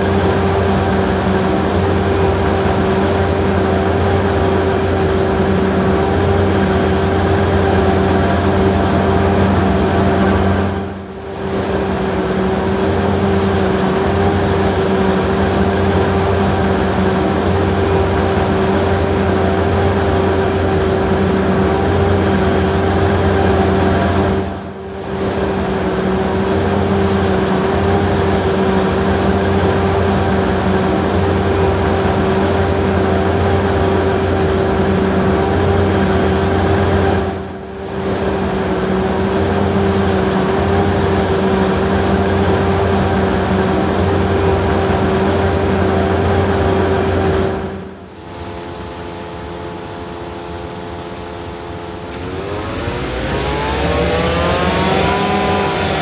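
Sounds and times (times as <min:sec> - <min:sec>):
forage harvester engine drone: 0:00.0 - 0:56.0.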